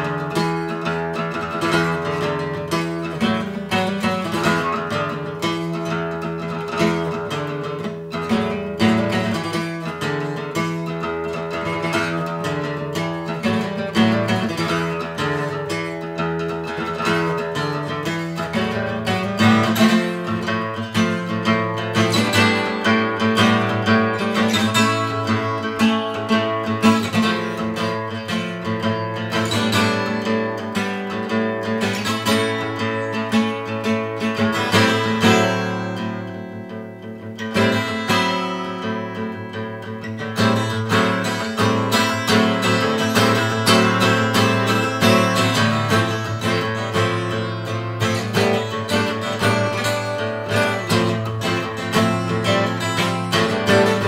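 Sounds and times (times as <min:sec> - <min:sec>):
acoustic guitar playing: 0:00.0 - 0:54.0.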